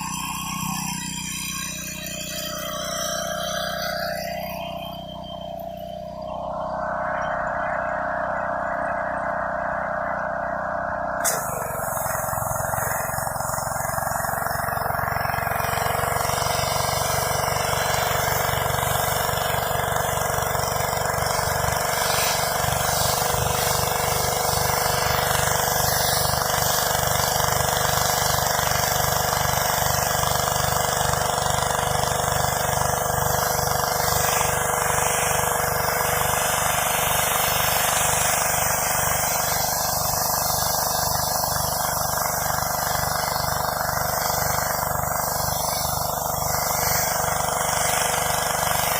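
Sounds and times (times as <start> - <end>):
water jet hissing on concrete: 0.0 - 6.5, 11.2 - 48.9
pressure washer engine running: 0.0 - 48.9.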